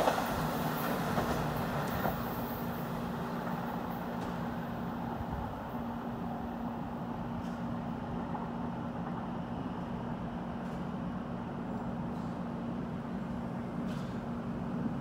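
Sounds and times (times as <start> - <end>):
diesel locomotive engine drone: 0.0 - 15.0
train rumble: 0.0 - 15.0.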